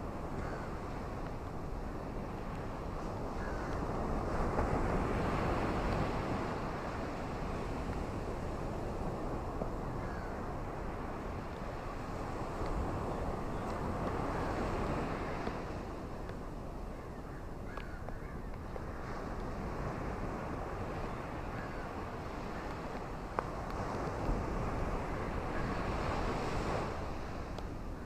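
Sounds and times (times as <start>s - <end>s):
ocean waves washing on shore: 0.0s - 28.0s.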